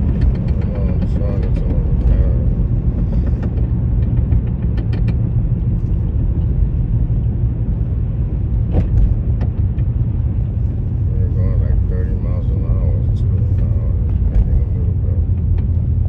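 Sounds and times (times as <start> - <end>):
car driving low rumble: 0.0 - 16.0.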